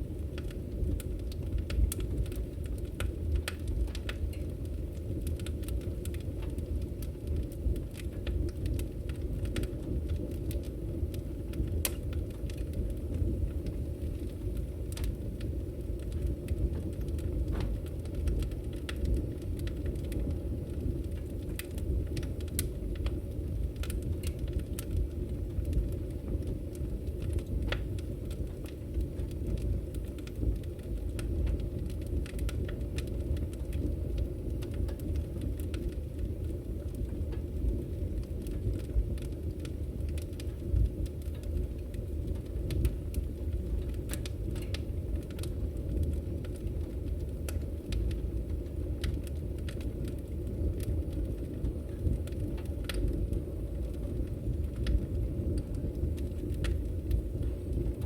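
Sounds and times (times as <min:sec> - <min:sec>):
fire crackling and popping: 0:00.0 - 0:58.0
fire low rumble: 0:00.0 - 0:58.0.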